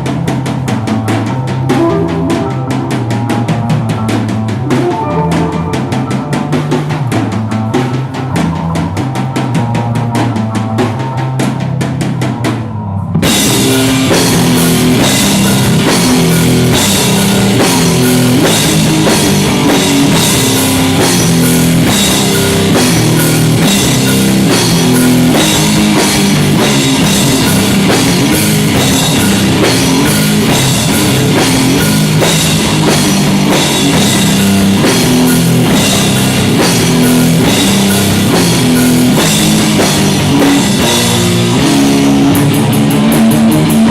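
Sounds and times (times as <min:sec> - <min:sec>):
drum kit beat: 0:00.0 - 0:12.2, 0:13.2 - 0:43.9
live rock band playing: 0:00.0 - 0:43.9.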